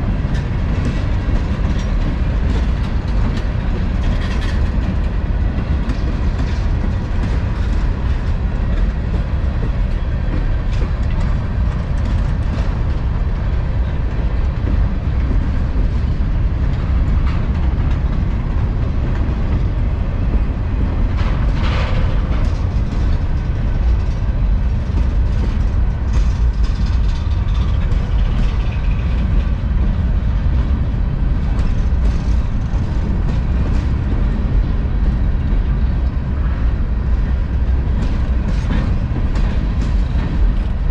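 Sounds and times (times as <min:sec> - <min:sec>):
freight train rumbling: 0:00.0 - 0:40.9
wheels clicking over rail joints: 0:00.0 - 0:40.9.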